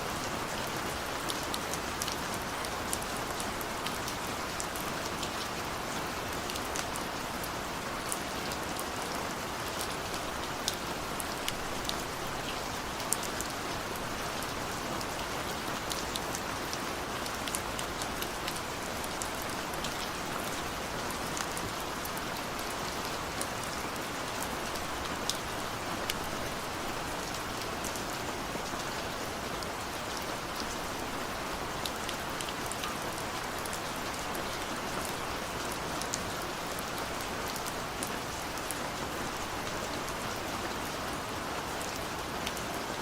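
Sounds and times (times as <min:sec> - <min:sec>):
rain on a window pane: 0:00.0 - 0:43.0.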